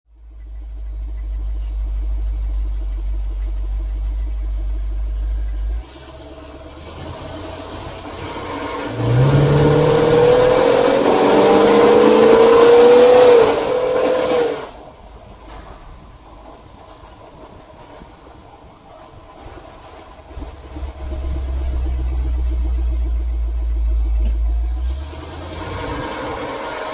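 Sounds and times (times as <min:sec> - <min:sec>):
engine rumbling and revving: 0:00.1 - 0:26.9.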